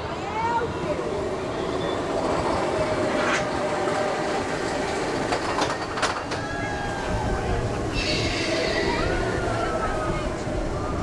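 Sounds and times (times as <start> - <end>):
roller coaster train rumbling: 0.0 - 11.0.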